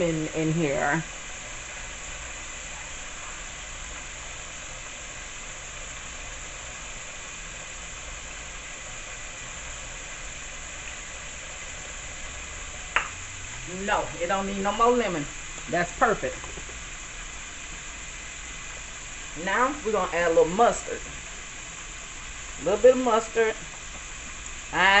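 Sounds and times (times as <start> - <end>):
food sizzling on a stove: 0.0 - 25.0.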